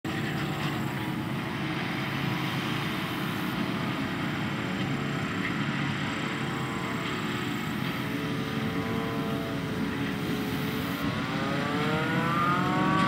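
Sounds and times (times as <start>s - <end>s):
machinery whine: 0.1s - 13.0s
tractor engine rumble: 0.1s - 13.0s.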